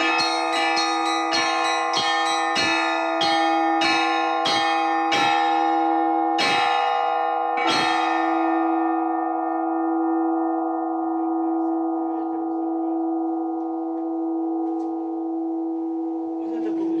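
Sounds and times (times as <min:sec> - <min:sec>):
church bells ringing hum: 0:00.0 - 0:17.0.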